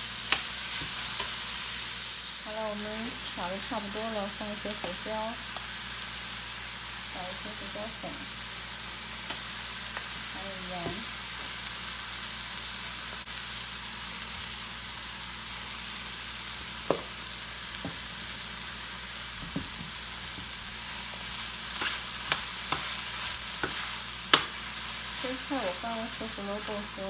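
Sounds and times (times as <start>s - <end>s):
vegetables sizzling in frying pan: 0.0s - 27.0s.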